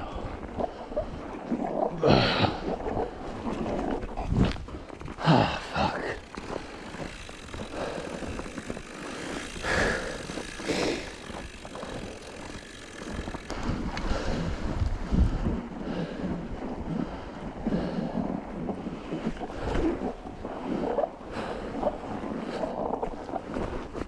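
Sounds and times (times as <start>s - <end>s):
wind buffeting microphone: 0.0s - 24.0s
bike tires crunching in snow: 0.1s - 24.0s.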